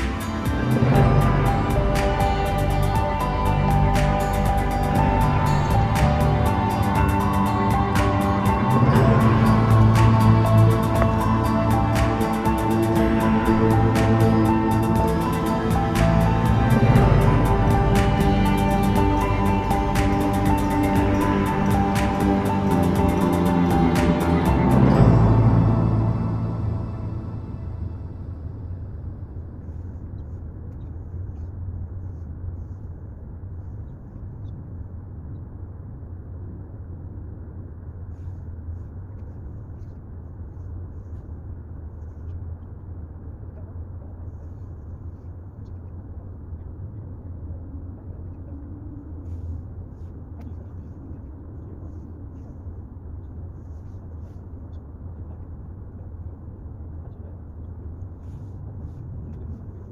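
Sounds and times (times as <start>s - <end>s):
low background rumble: 0.0s - 59.9s.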